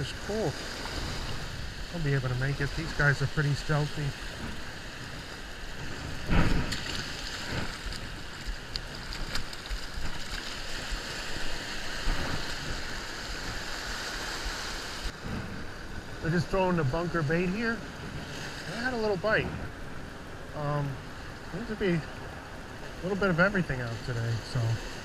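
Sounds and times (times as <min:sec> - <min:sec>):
small waves washing on sand: 0:00.0 - 0:25.0
wind: 0:00.0 - 0:25.0.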